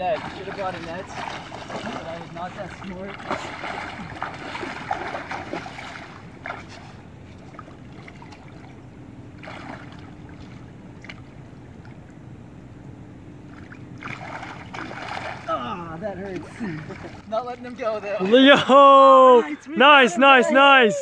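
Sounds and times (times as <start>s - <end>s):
water sloshing and splashing: 0.0s - 18.7s
wind: 0.0s - 21.0s.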